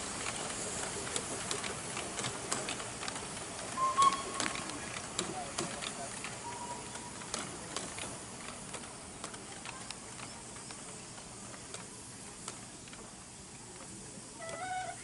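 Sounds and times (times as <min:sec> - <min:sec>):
light track clicks: 0:00.0 - 0:15.0
steam hissing: 0:00.0 - 0:15.0.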